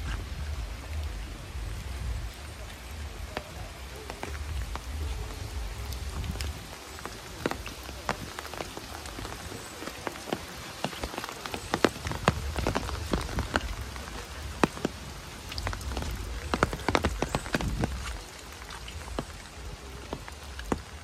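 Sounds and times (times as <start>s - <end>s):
rain pattering: 0.0s - 21.0s
single raindrops ticking: 0.0s - 21.0s.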